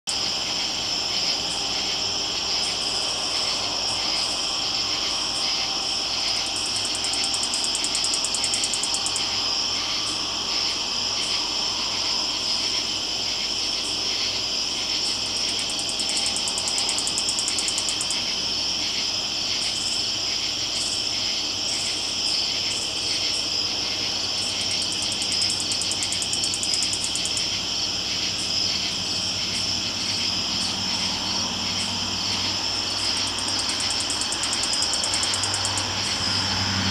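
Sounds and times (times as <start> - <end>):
crickets and insects trilling: 0.1 - 36.9.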